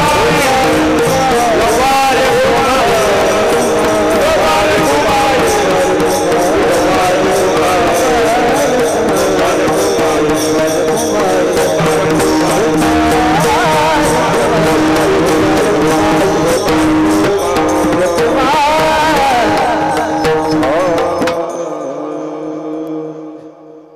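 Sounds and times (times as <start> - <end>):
hand drum strokes: 0.0 - 21.5
metallic cymbal beats: 0.0 - 21.8
man singing ornamented notes: 0.0 - 23.9
sustained accompaniment notes: 0.0 - 23.9.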